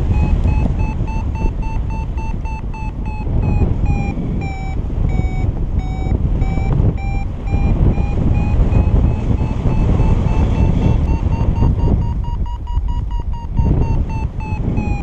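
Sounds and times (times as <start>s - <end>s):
variometer beeping: 0.0s - 15.0s
wind noise on microphone: 0.0s - 15.0s.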